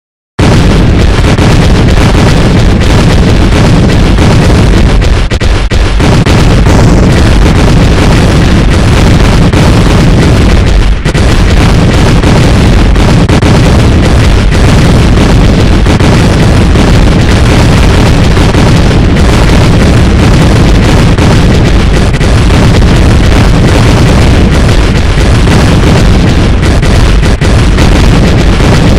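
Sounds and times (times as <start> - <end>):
distorted explosion blast: 0.4 - 28.9.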